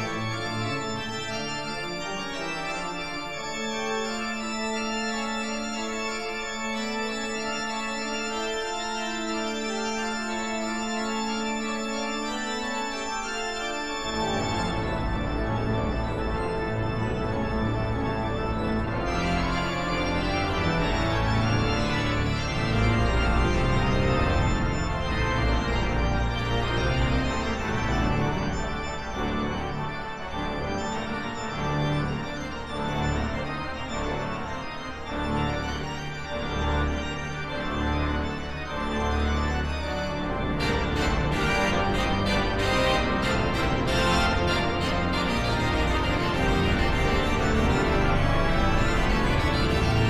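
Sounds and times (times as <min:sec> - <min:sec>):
organ chords: 0:00.0 - 0:50.0.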